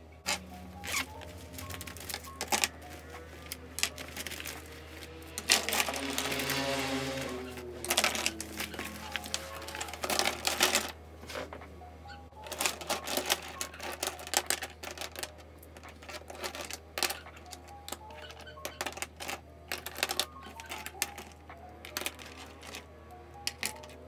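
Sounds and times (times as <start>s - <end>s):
plastic pens clattering: 0.3s - 11.6s, 12.4s - 24.0s.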